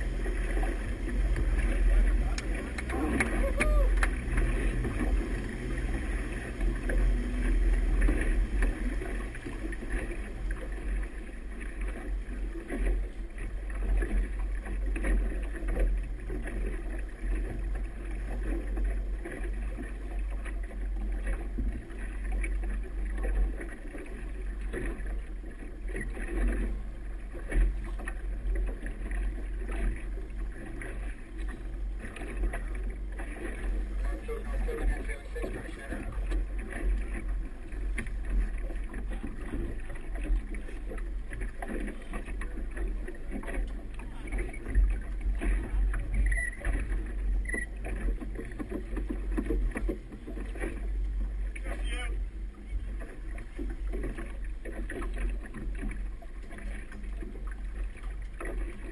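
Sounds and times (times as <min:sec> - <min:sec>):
boat engine rumbling: 0:00.0 - 0:58.9
water churning and splashing: 0:00.0 - 0:58.9.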